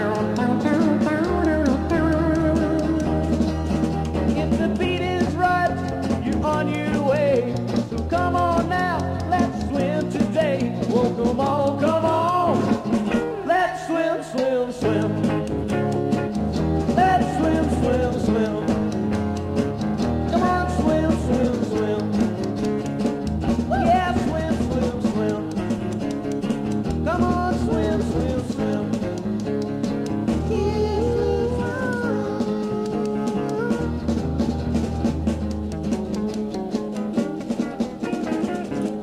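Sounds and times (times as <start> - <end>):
rock and roll band with electric guitar: 0.0 - 39.0.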